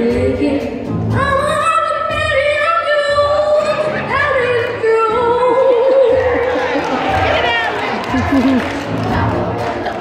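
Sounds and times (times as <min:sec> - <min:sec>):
music: 0:00.0 - 0:10.0.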